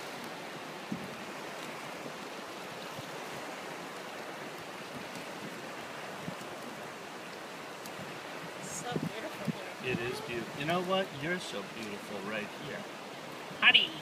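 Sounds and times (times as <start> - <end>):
fast-moving water rushing: 0.0 - 14.0.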